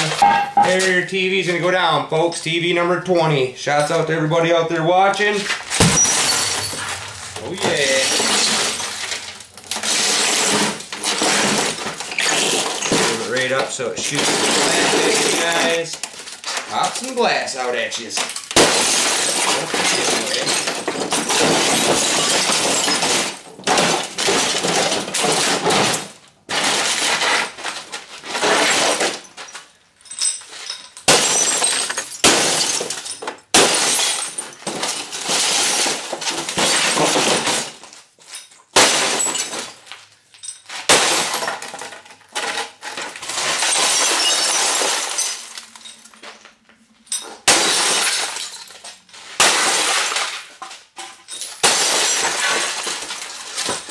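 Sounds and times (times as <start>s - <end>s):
glass shattering: 0.0s - 0.9s, 5.5s - 17.1s, 18.2s - 27.2s, 28.4s - 46.4s, 47.0s - 50.5s, 51.2s - 53.9s.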